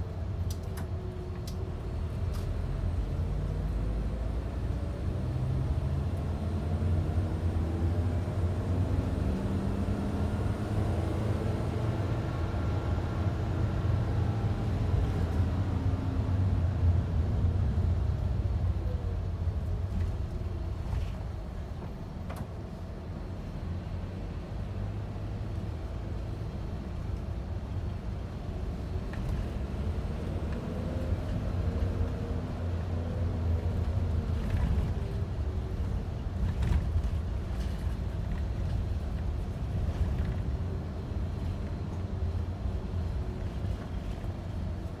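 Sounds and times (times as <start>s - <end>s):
bus engine drone: 0.0s - 45.0s
road noise: 0.0s - 45.0s.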